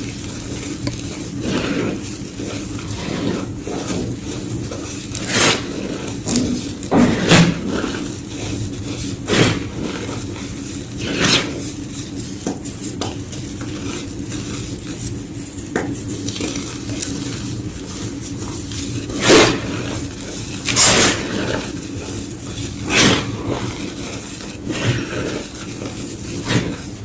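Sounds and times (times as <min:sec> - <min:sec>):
chalk crunching: 0:00.0 - 0:27.0.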